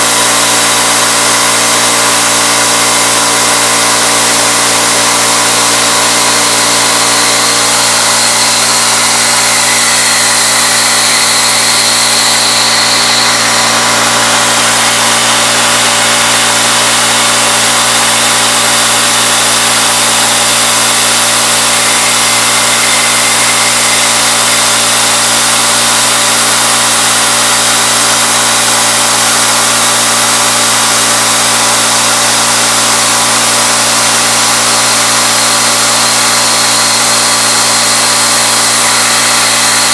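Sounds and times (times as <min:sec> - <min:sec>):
high machine whine: 0:00.0 - 0:39.9
milling machine cutting metal: 0:00.0 - 0:39.9.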